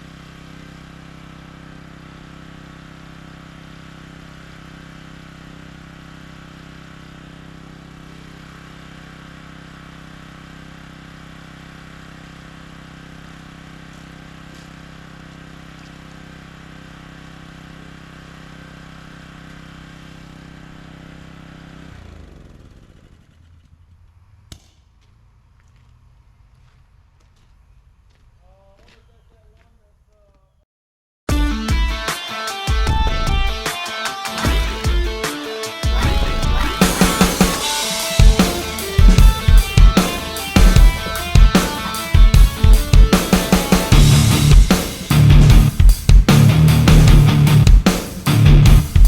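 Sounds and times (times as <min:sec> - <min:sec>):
small engine running: 0:00.0 - 0:28.2, 0:32.1 - 0:49.0.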